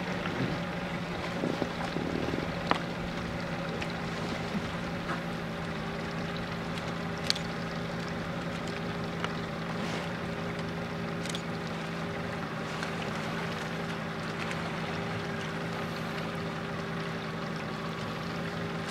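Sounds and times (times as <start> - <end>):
boat engine idling: 0.0 - 18.9.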